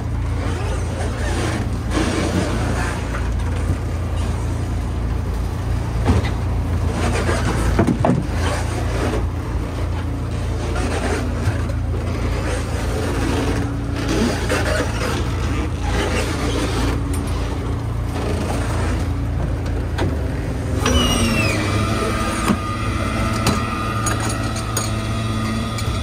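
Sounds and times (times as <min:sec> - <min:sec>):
boat engine rumbling: 0:00.0 - 0:26.0
water noise: 0:00.0 - 0:26.0
wind: 0:00.0 - 0:26.0.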